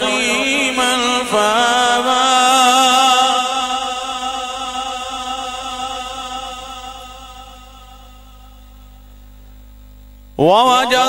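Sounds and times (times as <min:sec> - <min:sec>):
man reciting melodically over loudspeaker: 0:00.0 - 0:08.7, 0:10.4 - 0:11.0
faint low hum: 0:00.0 - 0:11.0.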